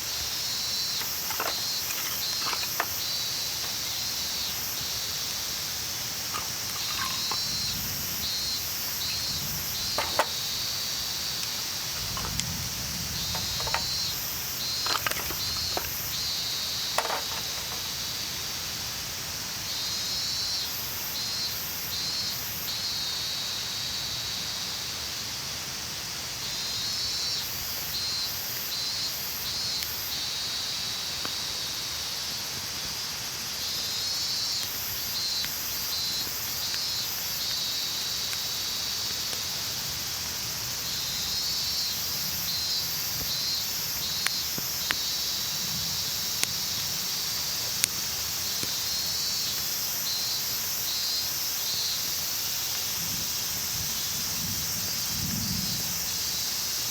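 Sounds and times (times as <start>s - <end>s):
insects calling in high pulses: 0.0s - 25.2s, 26.1s - 56.9s
steady hiss: 0.0s - 56.9s.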